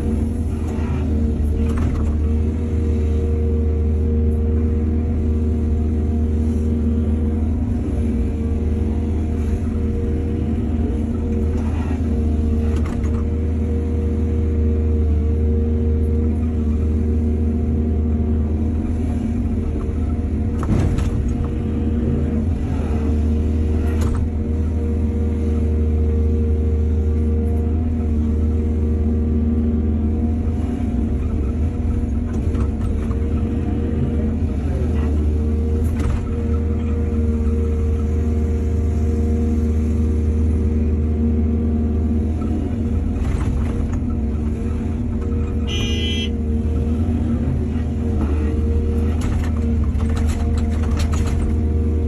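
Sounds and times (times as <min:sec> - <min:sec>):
diesel engine rumble: 0:00.0 - 0:52.0.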